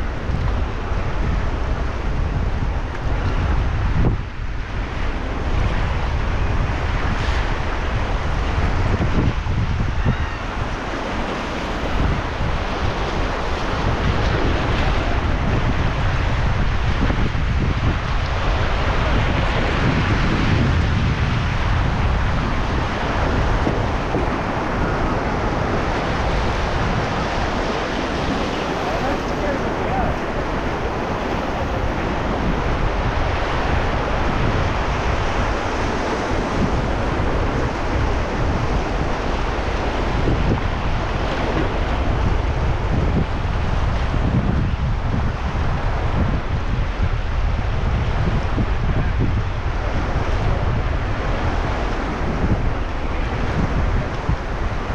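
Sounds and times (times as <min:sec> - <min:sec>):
rushing river water: 0:00.0 - 0:54.9
wind buffeting microphone: 0:00.0 - 0:54.9.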